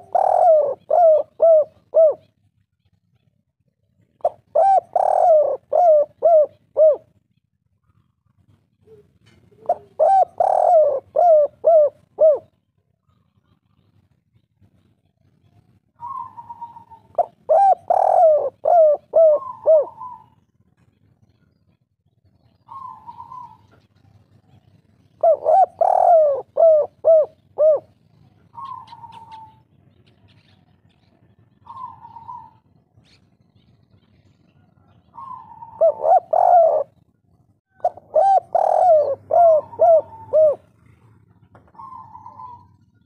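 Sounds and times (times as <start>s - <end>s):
dove cooing: 0.0s - 2.4s, 4.1s - 7.2s, 8.5s - 13.3s, 16.0s - 20.5s, 22.5s - 30.7s, 31.5s - 43.0s.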